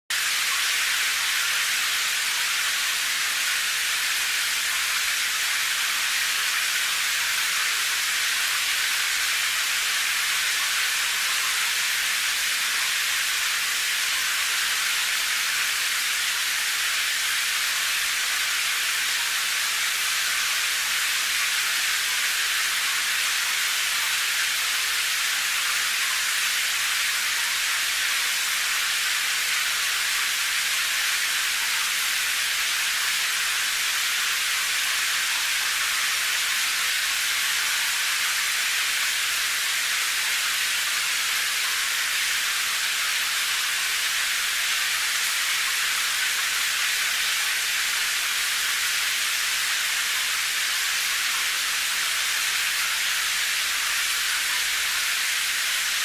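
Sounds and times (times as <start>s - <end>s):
steady rain hiss: 0.1s - 56.0s.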